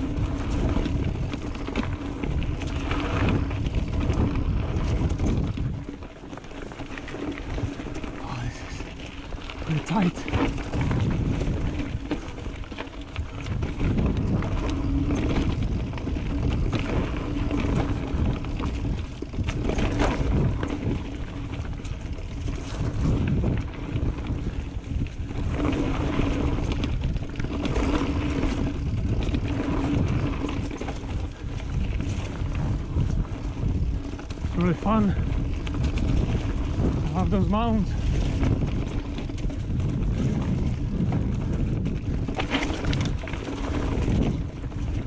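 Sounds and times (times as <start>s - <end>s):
bike knocking and rattling: 0.0s - 45.0s
bike tyres rolling on dirt: 0.0s - 45.0s
wind buffeting microphone: 0.0s - 45.0s.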